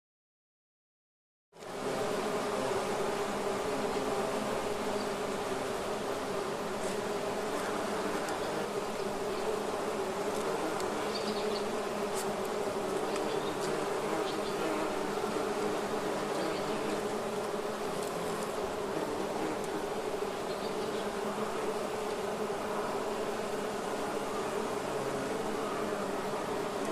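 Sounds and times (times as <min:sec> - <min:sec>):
bees buzzing: 0:01.6 - 0:26.9.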